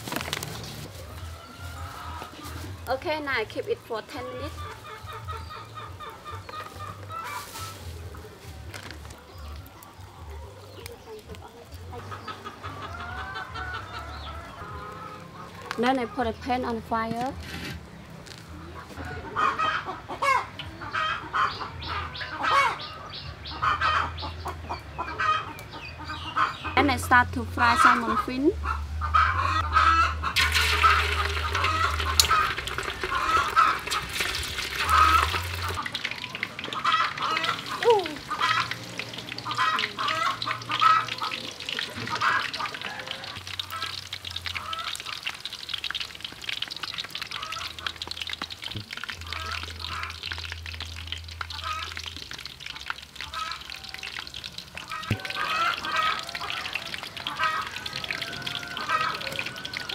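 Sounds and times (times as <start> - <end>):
deep-frying sizzle with crackling: 0.0 - 18.3, 26.3 - 59.9
chickens clucking: 0.5 - 50.4, 51.3 - 59.9.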